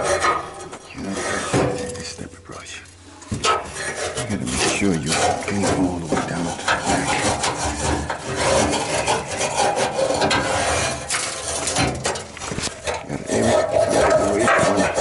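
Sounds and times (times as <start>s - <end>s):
wire brush scraping metal: 0.0s - 2.3s, 3.1s - 15.0s.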